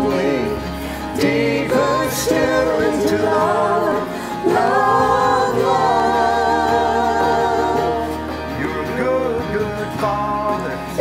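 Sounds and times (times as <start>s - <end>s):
group singing worship song: 0.0s - 11.0s.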